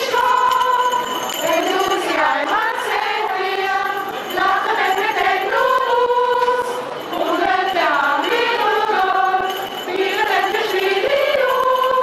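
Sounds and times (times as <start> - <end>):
mixed choir singing: 0.0 - 12.0.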